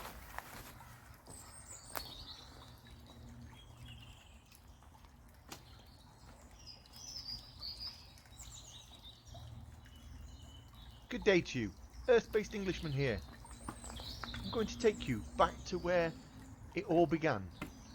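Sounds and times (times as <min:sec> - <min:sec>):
songbirds chirping and warbling: 0:00.0 - 0:17.9.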